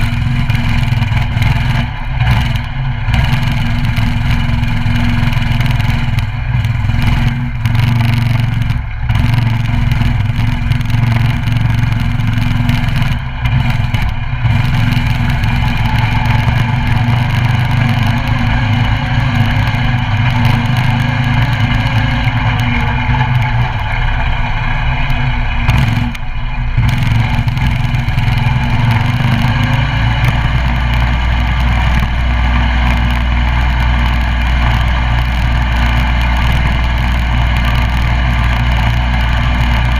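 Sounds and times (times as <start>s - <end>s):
mini bike engine under throttle: 0.0s - 39.9s.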